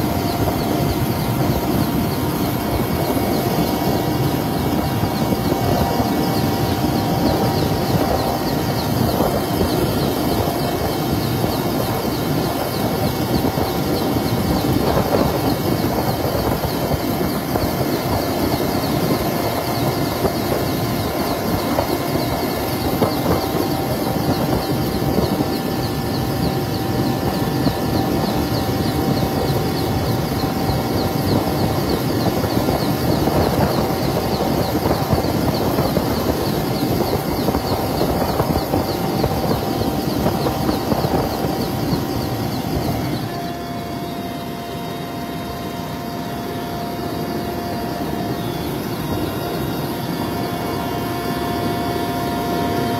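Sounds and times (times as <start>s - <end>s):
helicopter engine and rotor drone: 0.0s - 52.9s
whining tones: 0.0s - 52.9s.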